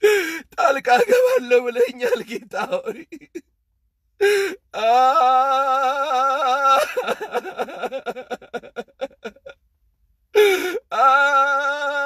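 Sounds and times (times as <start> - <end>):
man weeping and sobbing: 0.0 - 3.5, 4.2 - 9.7, 10.3 - 12.0.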